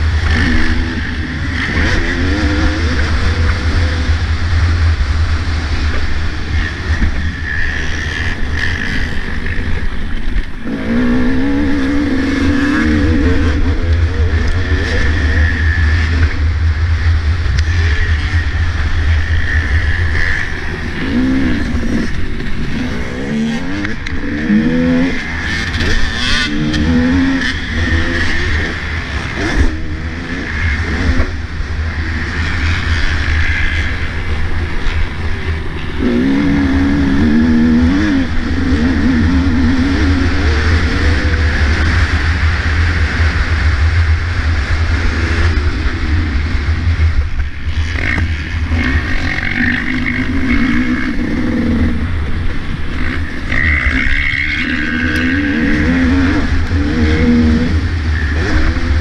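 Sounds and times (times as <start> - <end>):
low wind rumble on microphone: 0.0 - 59.0
motorbike engine revving: 0.0 - 59.0.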